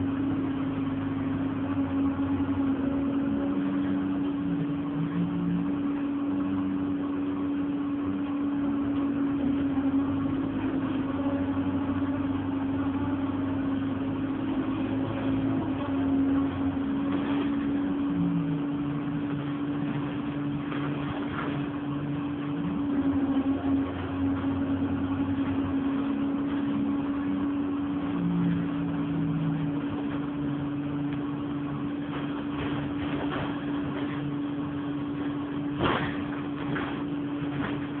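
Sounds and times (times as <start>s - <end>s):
bus diesel engine running: 0.0s - 38.0s.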